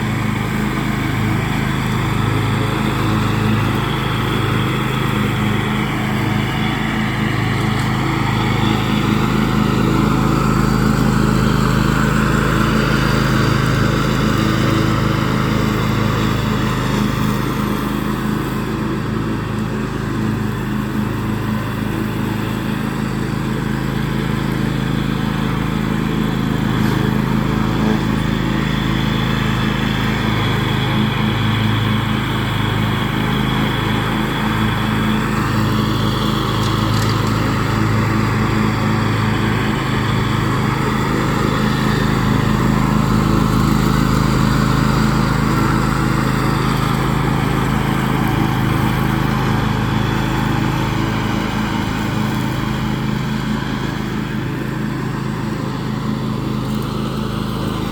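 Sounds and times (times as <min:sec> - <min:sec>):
lawn tractor engine mowing: 0:00.0 - 0:57.9.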